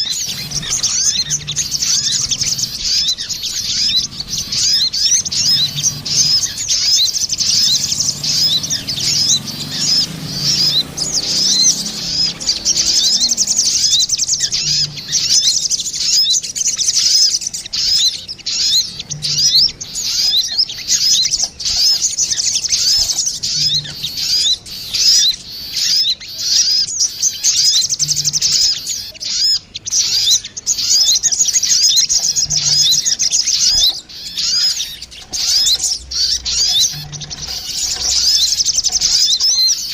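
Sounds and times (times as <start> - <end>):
birds chirping fast and high: 0.0 - 39.9.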